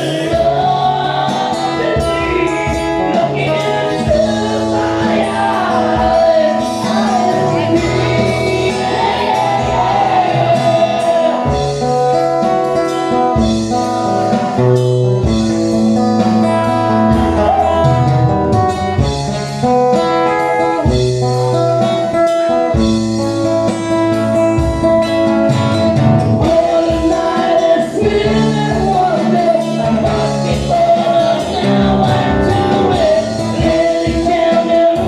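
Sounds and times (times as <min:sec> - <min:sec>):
guitar melody: 0:00.0 - 0:35.0
live rock band playing: 0:00.0 - 0:35.0.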